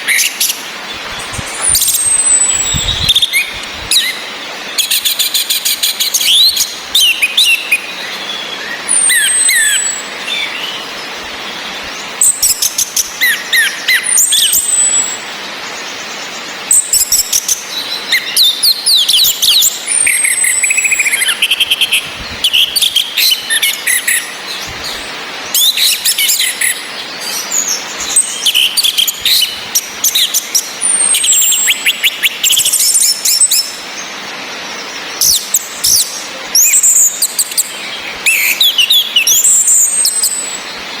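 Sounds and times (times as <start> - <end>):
thrushes chirping and whistling: 0.0 - 11.0, 11.6 - 15.3, 16.7 - 34.1, 34.7 - 41.0
background hiss: 0.0 - 41.0.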